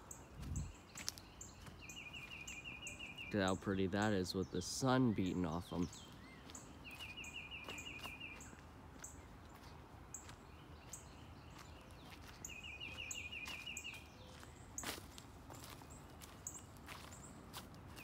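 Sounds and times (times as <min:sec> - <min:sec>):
footsteps on dry leaves: 0:00.0 - 0:18.0.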